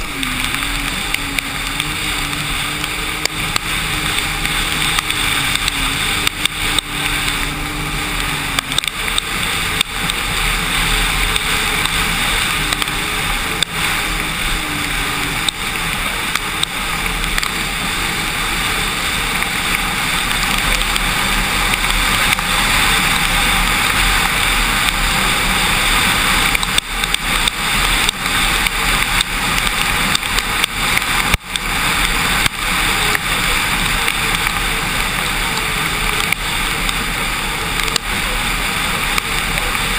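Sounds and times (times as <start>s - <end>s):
rush of wind and spray: 0.0s - 39.9s
watercraft engine: 0.0s - 39.9s.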